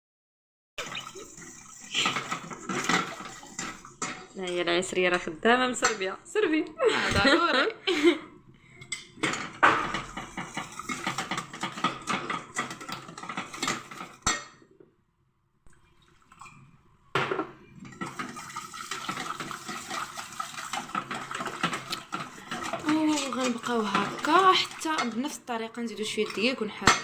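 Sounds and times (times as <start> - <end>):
utensil stirring in a pot: 0.8 - 6.1, 6.9 - 14.6, 17.7 - 27.0.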